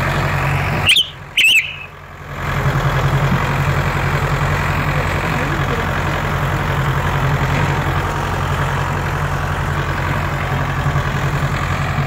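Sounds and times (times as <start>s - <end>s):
tractor diesel engine chugging: 0.0s - 12.0s.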